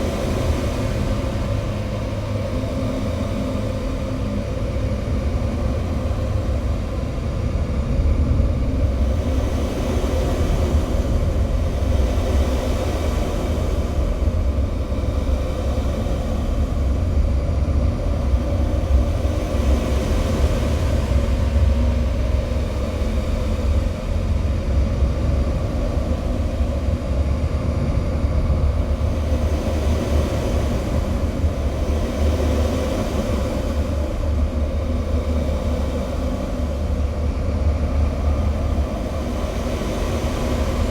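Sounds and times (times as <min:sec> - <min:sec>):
droning hum: 0:00.0 - 0:40.9.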